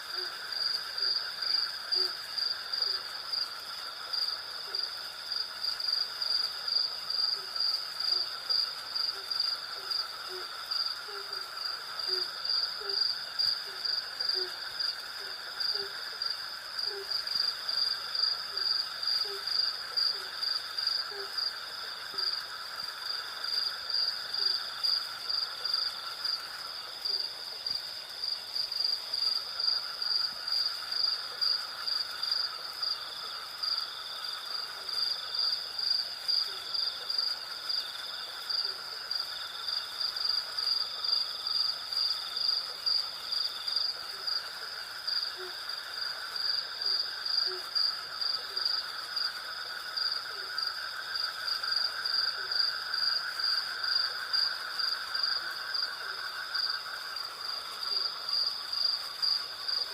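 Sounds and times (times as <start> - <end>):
crickets chirping: 0.0 - 59.9
insects humming: 0.0 - 59.9.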